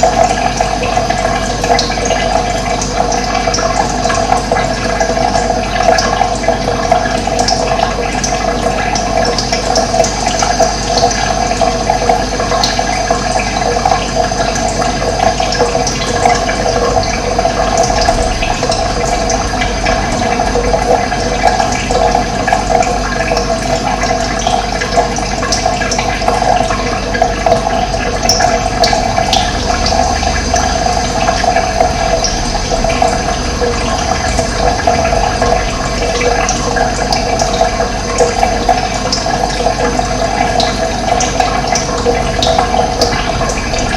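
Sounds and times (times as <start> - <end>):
running water gushing: 0.0 - 43.9.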